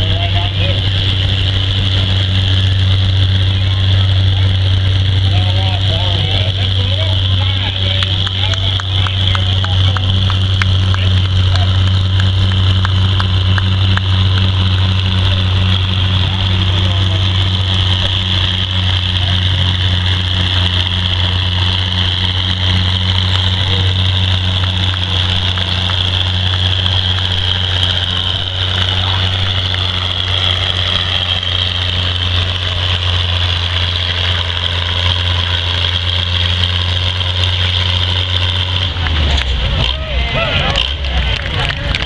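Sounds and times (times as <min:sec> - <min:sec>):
tractor engine under load: 0:00.0 - 0:42.0.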